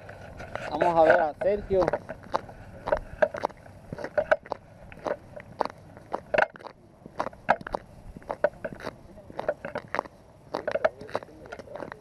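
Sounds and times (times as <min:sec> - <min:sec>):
boot footsteps crunching on ice: 0:00.0 - 0:12.0.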